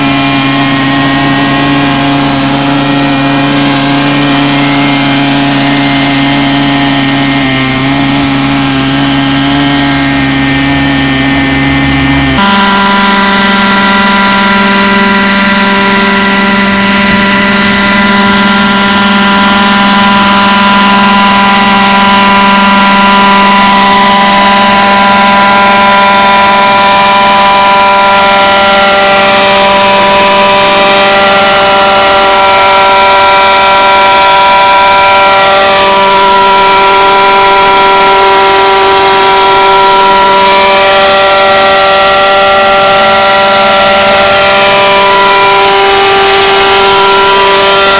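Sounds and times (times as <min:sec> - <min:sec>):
model helicopter rotor whine: 0:00.0 - 0:47.9.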